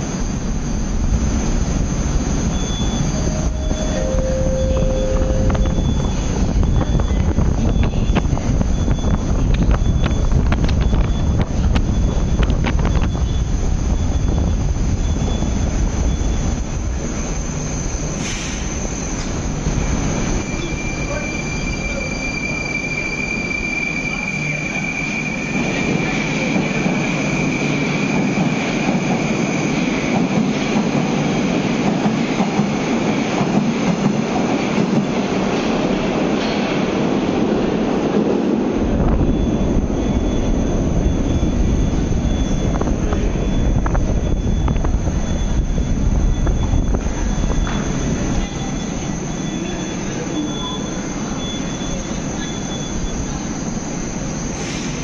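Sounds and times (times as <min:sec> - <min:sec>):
train rumble: 0:00.0 - 0:55.0
high wheel squeal: 0:01.6 - 0:30.2, 0:39.2 - 0:55.0.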